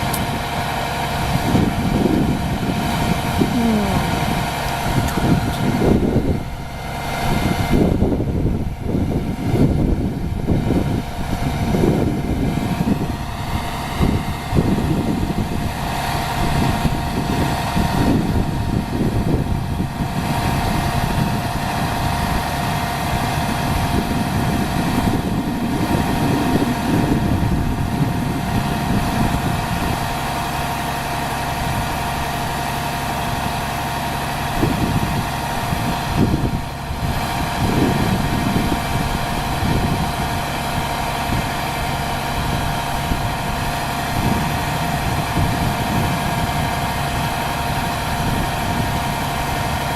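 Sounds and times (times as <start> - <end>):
steady whine: 0.0 - 49.9
vehicle engine idling: 0.0 - 49.9.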